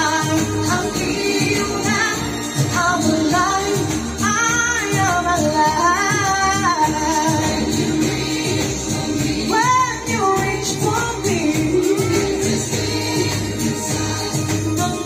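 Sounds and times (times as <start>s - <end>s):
karaoke backing track: 0.0s - 15.0s
young man singing a pop ballad: 0.0s - 15.0s.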